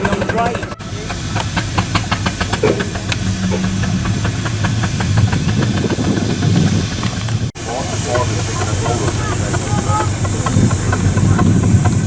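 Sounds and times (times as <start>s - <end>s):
fast mechanical ticking: 0.0s - 12.0s
low running hum: 0.0s - 12.0s
steam hissing: 0.0s - 12.0s.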